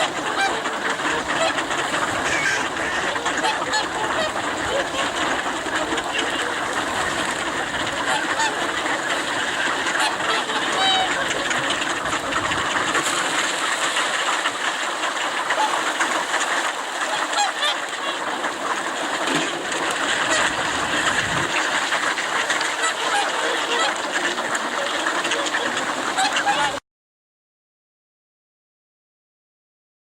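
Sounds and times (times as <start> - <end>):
flock of swans calling: 0.0 - 26.8.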